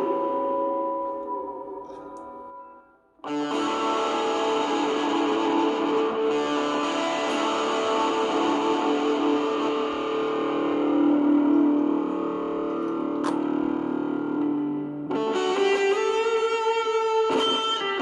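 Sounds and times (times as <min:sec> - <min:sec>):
distorted electric guitar chord: 0:00.0 - 0:18.0.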